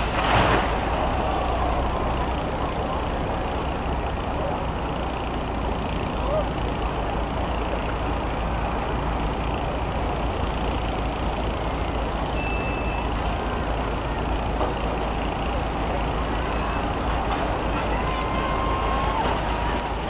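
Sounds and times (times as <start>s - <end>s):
bus engines running: 0.0s - 20.0s.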